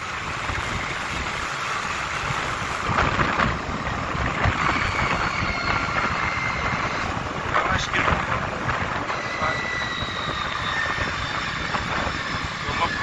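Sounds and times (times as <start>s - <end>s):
tractor diesel engine running: 0.0s - 13.0s
wind buffeting microphone: 0.0s - 13.0s.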